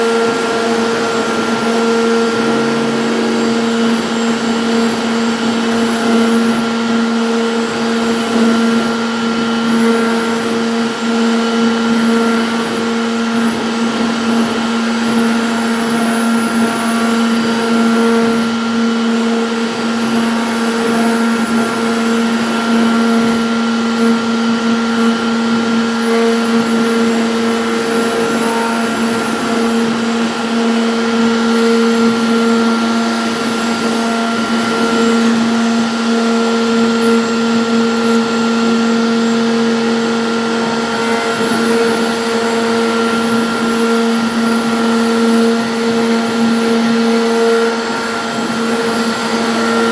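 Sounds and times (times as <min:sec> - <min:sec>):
router spindle whine: 0:00.0 - 0:49.9.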